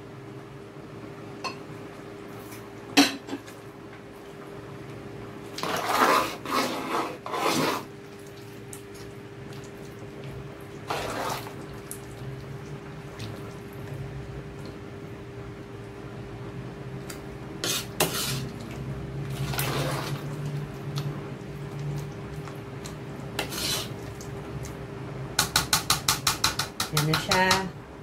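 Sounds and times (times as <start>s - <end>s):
stirring and sloshing stew: 3.4s - 16.1s, 17.0s - 27.7s.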